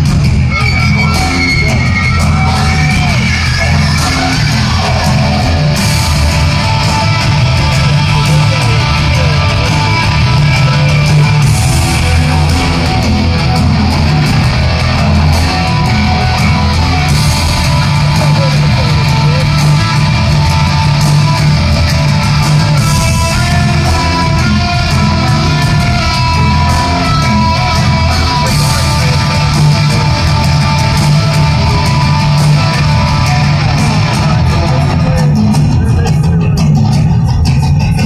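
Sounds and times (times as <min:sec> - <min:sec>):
heavy metal band playing live: 0:00.0 - 0:38.0.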